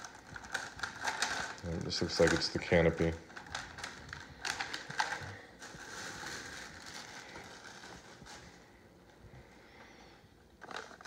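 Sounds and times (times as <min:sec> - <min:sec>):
plastic packaging crinkling: 0:00.0 - 0:09.2, 0:10.5 - 0:11.0.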